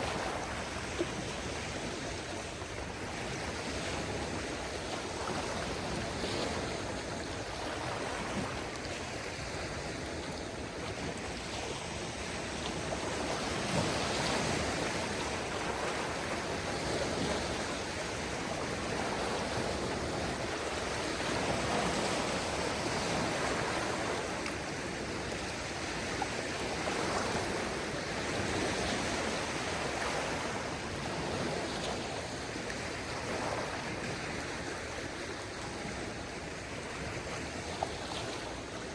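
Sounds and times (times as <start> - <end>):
small waves washing in: 0.0 - 38.9.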